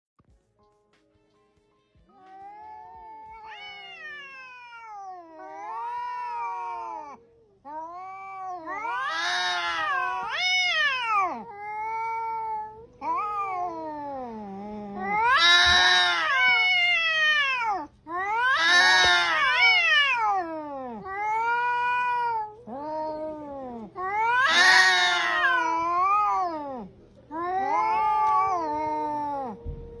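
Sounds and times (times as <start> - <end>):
cat yowling: 2.1 - 30.0.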